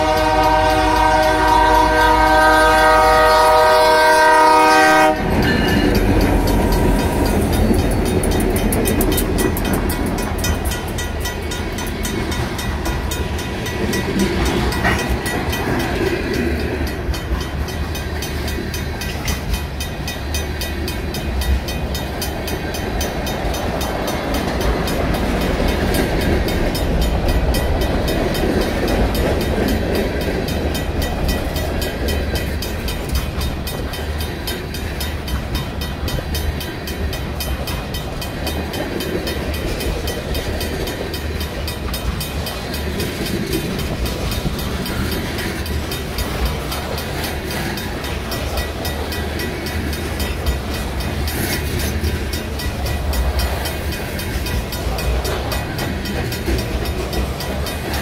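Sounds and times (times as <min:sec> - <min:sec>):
freight train wheels rumbling: 0:00.0 - 0:58.0
mechanical crossing bell ringing: 0:05.3 - 0:58.0.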